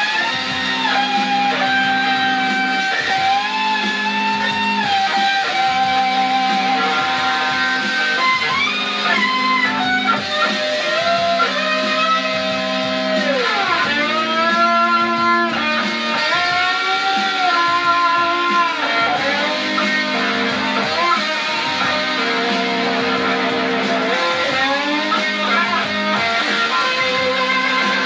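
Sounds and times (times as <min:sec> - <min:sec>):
electric guitar music: 0:00.0 - 0:28.0.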